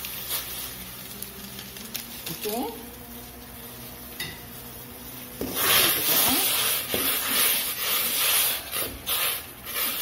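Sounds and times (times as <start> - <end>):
liquid hissing in hot pan: 0.0 - 10.0.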